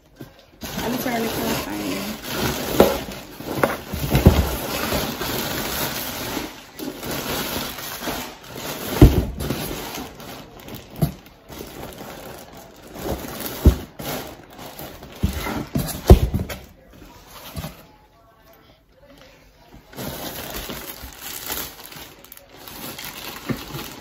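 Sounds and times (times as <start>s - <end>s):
rustling of packages: 0.0s - 24.0s.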